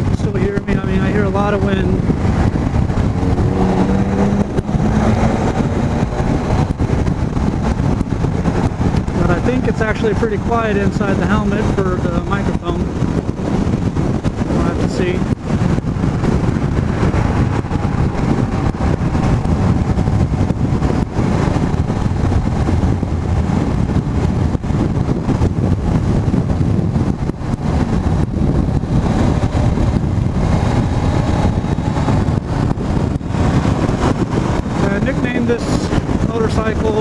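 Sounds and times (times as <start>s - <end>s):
motorcycle engine: 0.0s - 37.0s
road noise: 0.0s - 37.0s
wind rushing over helmet microphone: 0.0s - 37.0s.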